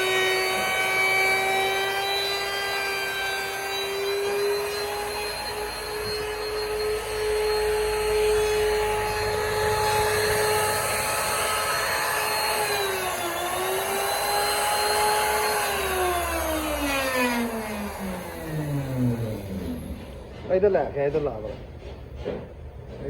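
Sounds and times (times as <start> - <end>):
router cutting hiss: 0.0 - 20.2
electric wood router whining: 0.0 - 20.3.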